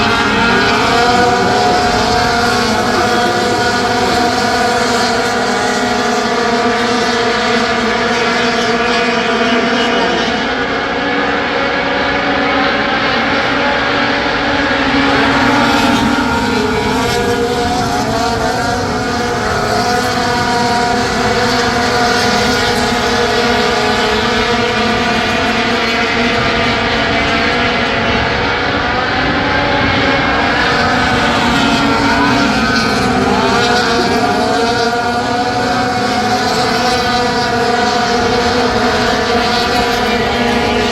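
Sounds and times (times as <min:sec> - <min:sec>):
race truck engines at high revs: 0:00.0 - 0:40.9.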